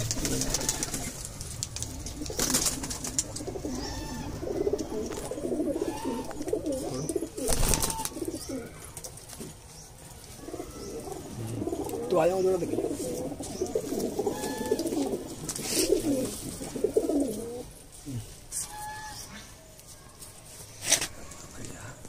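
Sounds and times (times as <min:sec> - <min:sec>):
pigeons cooing: 0:00.0 - 0:19.6.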